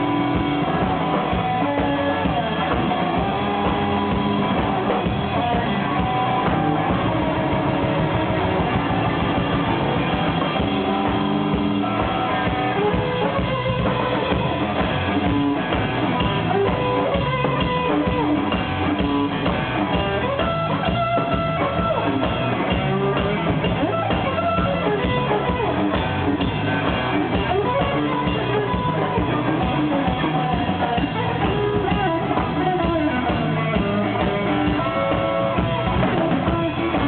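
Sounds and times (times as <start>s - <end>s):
bass guitar: 0.0s - 37.0s
drum kit beat: 0.0s - 37.0s
electric guitar: 0.0s - 37.0s.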